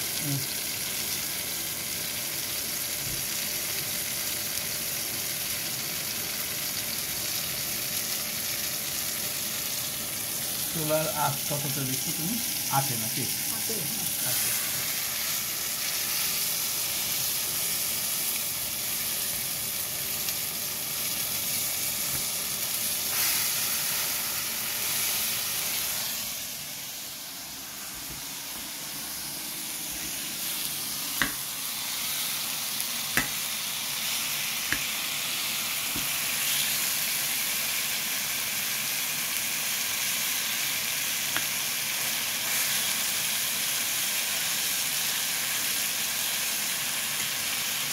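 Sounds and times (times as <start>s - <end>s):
tomatoes sizzling in hot oil: 0.0s - 47.9s.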